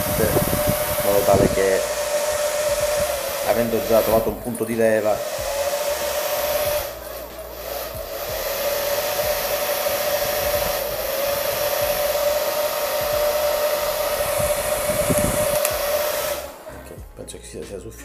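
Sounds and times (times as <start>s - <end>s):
hair dryer whining: 0.0s - 17.2s.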